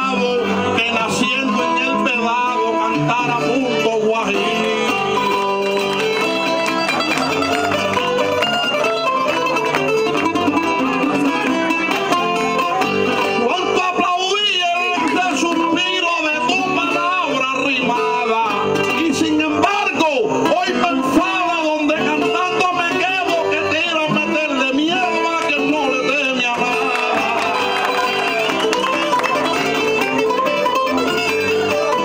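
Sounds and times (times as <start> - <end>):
plucked lute and acoustic guitar: 0.0 - 32.0.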